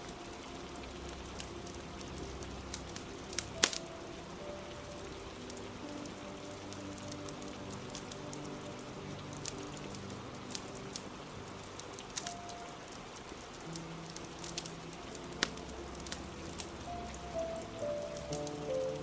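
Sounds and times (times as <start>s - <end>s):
soft slow background music: 0.0s - 19.0s
steady rain: 0.0s - 19.0s
wood fire crackling and popping: 0.9s - 19.0s.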